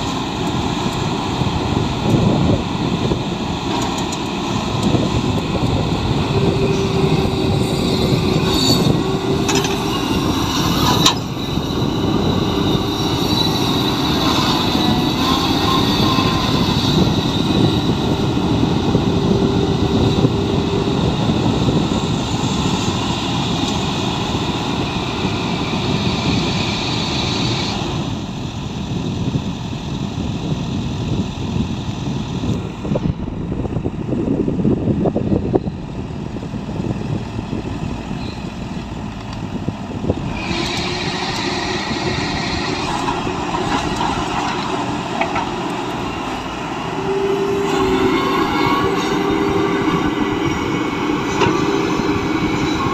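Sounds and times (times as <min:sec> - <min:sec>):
excavator diesel engine: 0:00.0 - 0:52.9
steady whine: 0:00.0 - 0:52.9.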